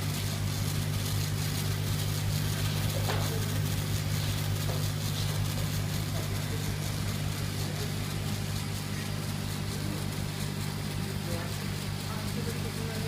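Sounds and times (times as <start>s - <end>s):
laser engraver humming and hissing: 0.0s - 13.0s.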